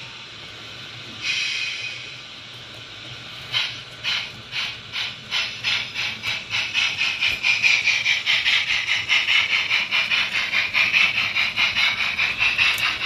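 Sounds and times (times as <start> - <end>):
model steam locomotive chuffs: 0.0 - 13.0.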